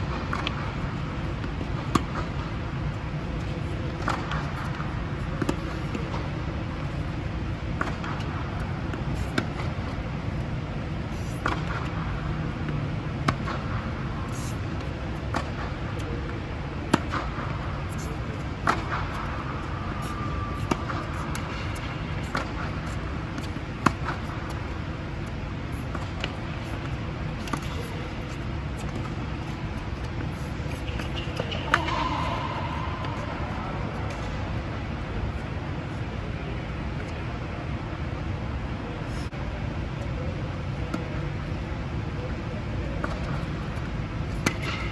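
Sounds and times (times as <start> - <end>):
tennis balls struck by rackets: 0.0 - 34.8, 43.0 - 44.9
balls bouncing on hard court: 0.0 - 34.9, 42.8 - 44.9
low rumble of blowers: 0.0 - 44.8
steady low hum: 0.0 - 44.9.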